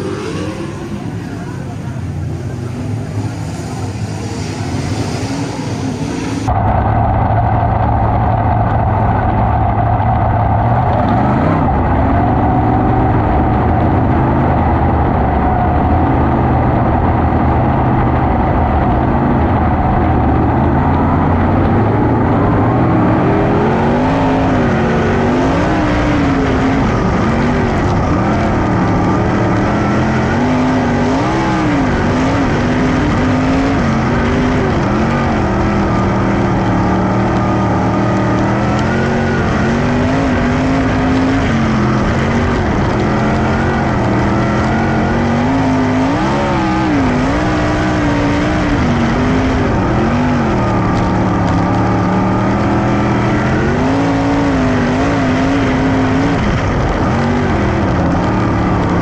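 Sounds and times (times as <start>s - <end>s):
race car engines at full throttle: 0.0s - 59.0s.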